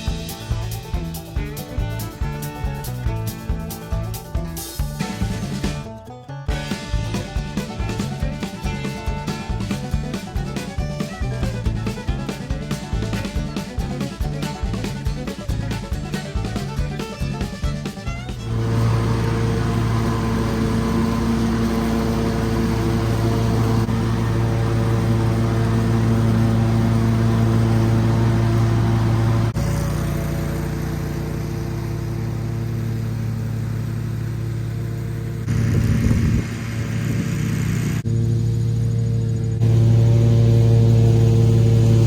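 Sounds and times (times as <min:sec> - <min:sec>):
riding lawn mower engine: 0:00.0 - 0:42.0.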